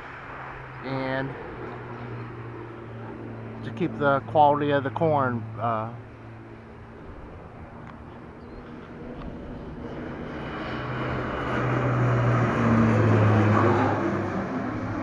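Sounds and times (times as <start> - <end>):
propeller plane flying low: 0.0 - 15.0.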